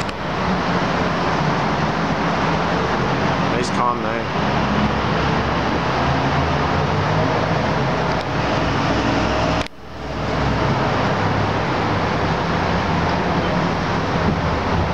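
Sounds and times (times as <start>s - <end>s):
city traffic hum: 0.0s - 14.9s.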